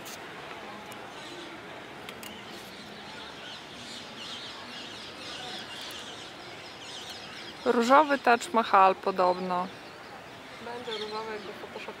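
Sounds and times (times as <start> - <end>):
outdoor background noise: 0.0 - 12.0
small birds chirping: 2.2 - 12.0.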